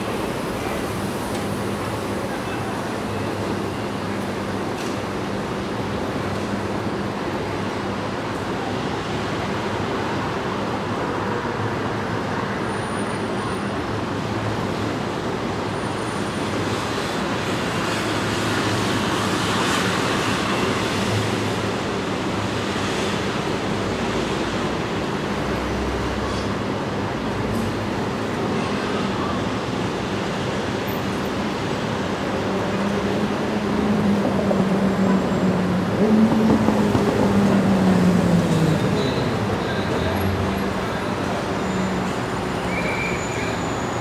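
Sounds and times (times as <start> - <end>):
dense street traffic: 0.0 - 44.0.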